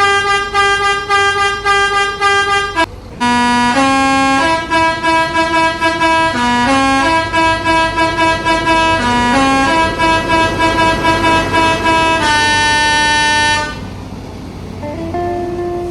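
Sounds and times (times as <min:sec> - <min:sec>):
multi-tone bus horn melody: 0:00.0 - 0:14.0, 0:14.8 - 0:15.9.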